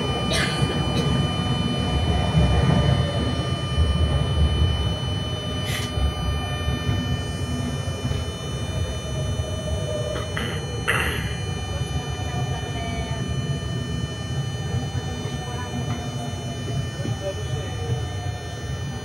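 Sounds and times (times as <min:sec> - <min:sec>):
thin electrical whine: 0:00.0 - 0:19.0
train wheel and track rumble: 0:00.0 - 0:19.0.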